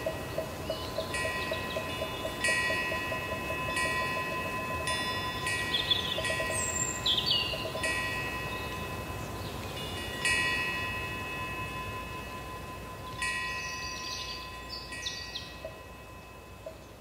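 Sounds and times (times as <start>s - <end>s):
wind bell ringing: 0.0s - 17.0s.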